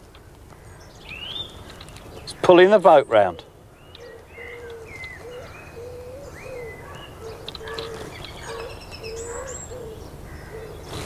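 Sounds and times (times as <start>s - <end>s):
songbirds whistling: 0.6s - 11.0s.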